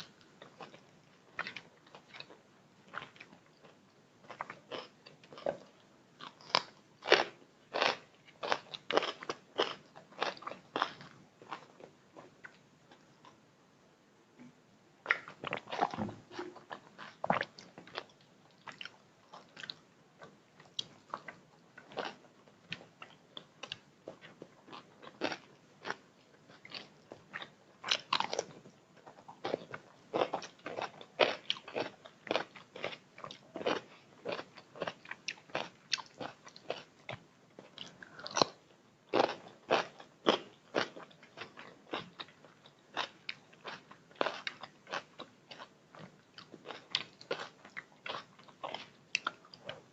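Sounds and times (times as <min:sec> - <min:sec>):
person chewing crunchy food: 0:00.0 - 0:13.4, 0:15.1 - 0:49.9.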